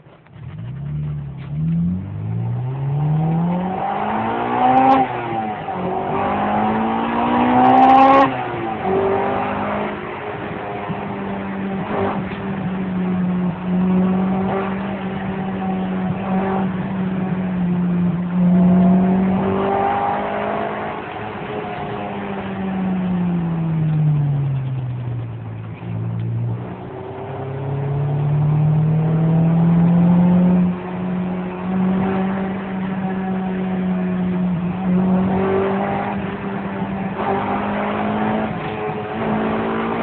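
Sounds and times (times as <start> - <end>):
car engine heard from cabin: 0.0 - 40.0
road noise: 0.0 - 40.0.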